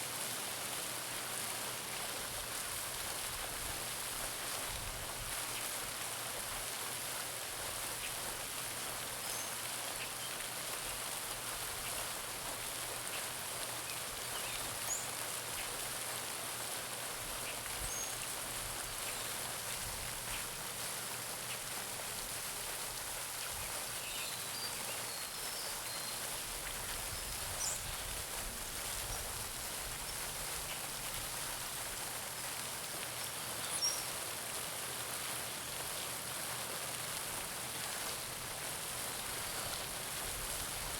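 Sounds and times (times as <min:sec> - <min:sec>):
fountain splashing into pond: 0:00.0 - 0:40.9.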